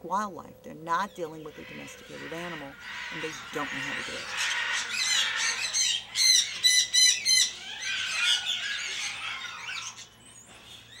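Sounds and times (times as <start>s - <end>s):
parrot chattering calls: 1.4s - 10.2s
parrot squawking: 1.4s - 11.0s.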